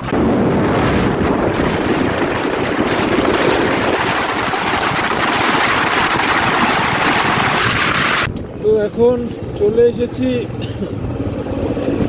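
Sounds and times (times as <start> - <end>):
wind rushing over microphone: 0.0 - 10.1, 11.0 - 12.0
road noise: 0.0 - 12.0.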